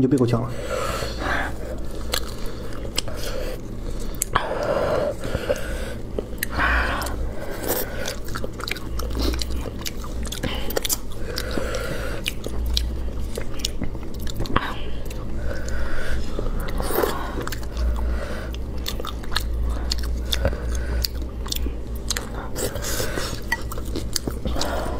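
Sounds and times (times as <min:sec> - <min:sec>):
chewing and biting: 0:01.1 - 0:24.9.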